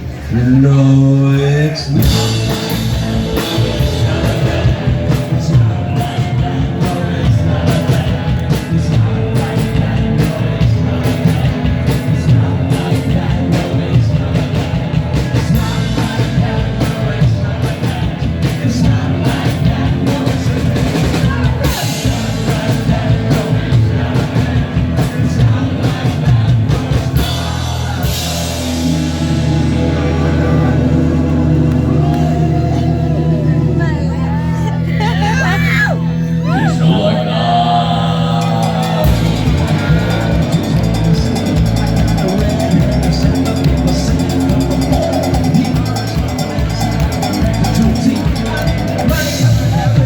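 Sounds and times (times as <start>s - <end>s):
person singing: 0.0s - 50.0s
live rock band playing: 1.9s - 50.0s
drum kit beat: 2.0s - 32.8s, 37.7s - 50.0s.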